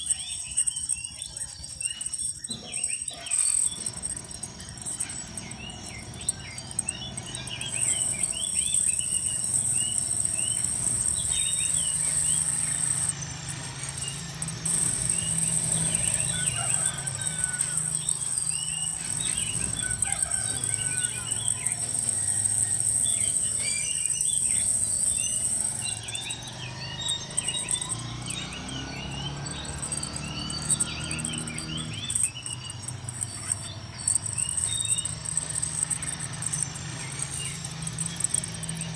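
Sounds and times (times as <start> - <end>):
birds chirping: 0.0 - 38.9
insects shrilling: 0.0 - 38.9.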